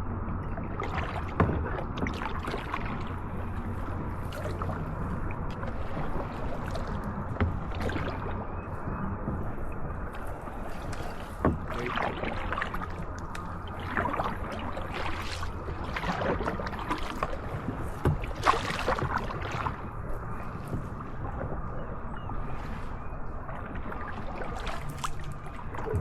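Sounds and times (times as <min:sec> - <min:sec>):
paddles splashing in water: 0:00.5 - 0:26.0.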